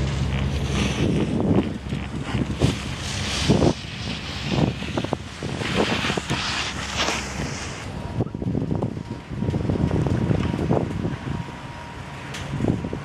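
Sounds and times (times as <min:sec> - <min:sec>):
faint steady whine: 0:00.0 - 0:13.0
wind buffeting microphone: 0:00.0 - 0:13.0.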